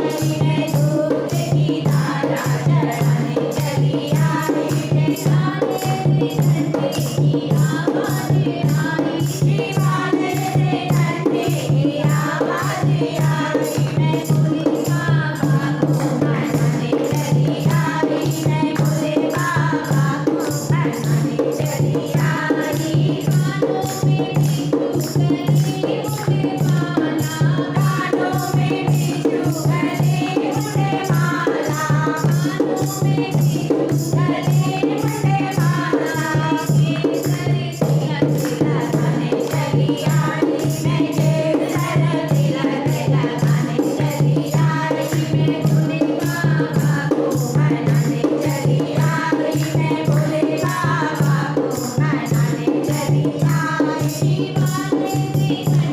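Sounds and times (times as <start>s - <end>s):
jingling hand percussion: 0.0s - 55.9s
voices singing a melody: 0.0s - 55.9s.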